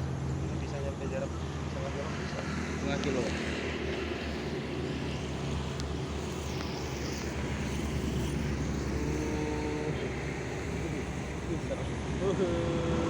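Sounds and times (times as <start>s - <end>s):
steady outdoor rumble: 0.0s - 13.0s.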